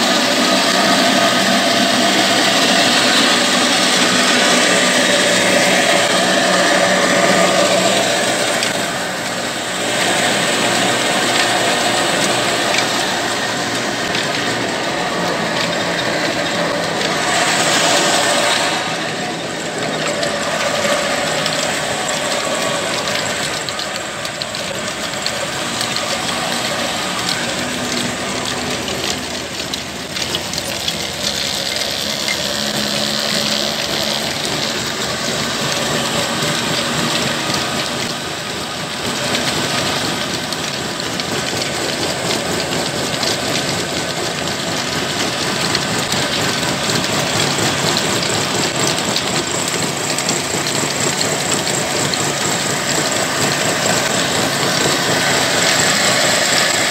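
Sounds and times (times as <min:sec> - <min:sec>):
belts and machinery clatter: 0:00.0 - 0:56.9
diesel engine running: 0:00.0 - 0:56.9.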